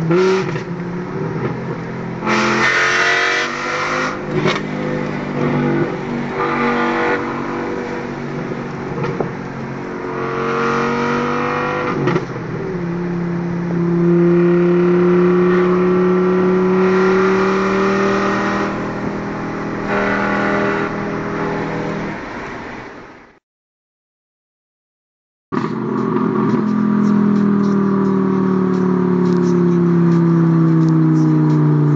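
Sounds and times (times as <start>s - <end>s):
car engine and exhaust under load: 0.0s - 23.4s, 25.5s - 31.9s.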